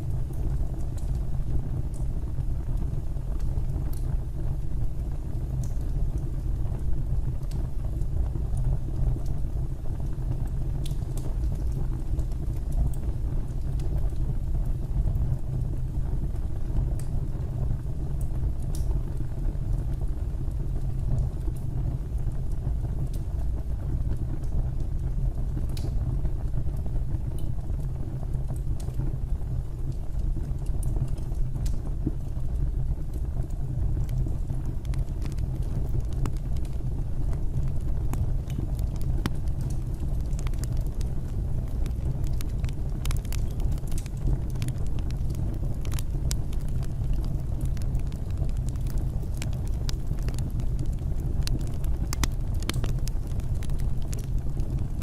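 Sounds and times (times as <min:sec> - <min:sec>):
fire burning with low rumble: 0:00.0 - 0:55.0
fire crackling and popping: 0:00.0 - 0:55.0.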